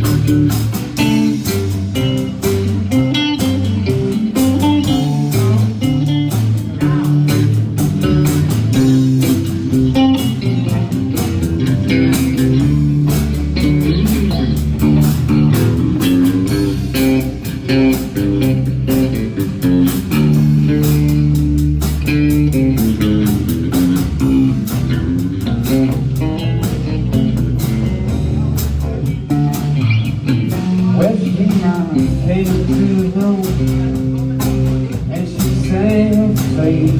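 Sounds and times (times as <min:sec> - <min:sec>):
drum kit beat: 0:00.0 - 0:36.9
electric bass guitar: 0:00.0 - 0:36.9
electric guitar: 0:00.0 - 0:36.9.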